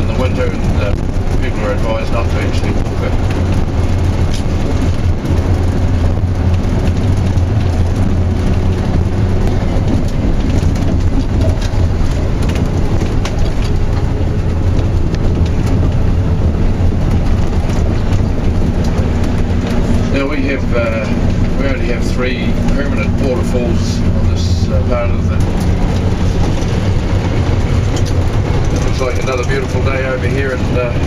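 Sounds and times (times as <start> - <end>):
coach engine drone and tyre noise: 0.0 - 31.0
stones crackling under wheels: 0.0 - 31.0.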